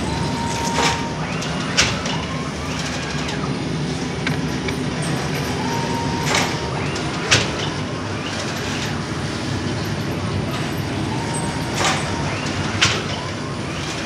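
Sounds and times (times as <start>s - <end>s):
dough-sheeting machine running: 0.0s - 14.0s.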